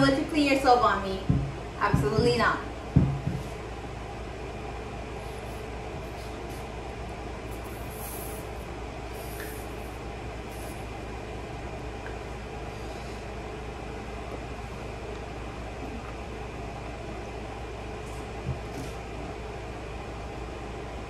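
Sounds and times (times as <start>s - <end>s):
steady hum and hiss: 0.0s - 21.0s.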